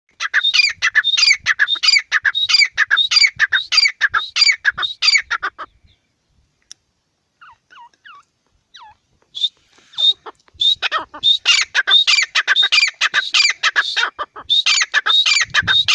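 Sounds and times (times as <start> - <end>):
partridge calling: 0.1 - 6.0, 7.4 - 15.9.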